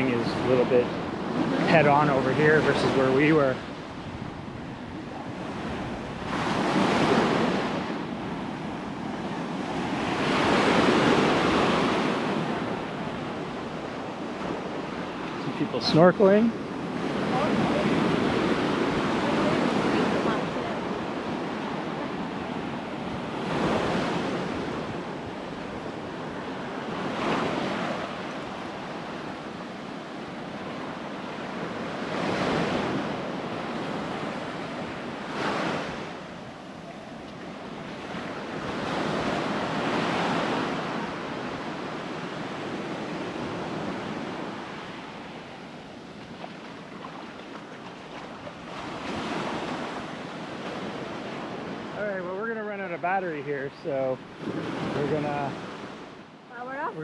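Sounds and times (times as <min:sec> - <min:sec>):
ocean waves crashing on beach: 0:00.0 - 0:57.0.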